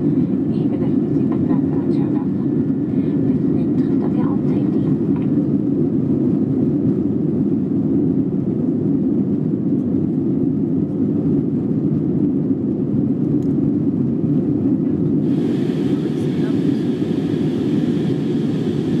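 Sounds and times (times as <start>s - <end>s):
airplane cabin engine drone: 0.0s - 19.0s.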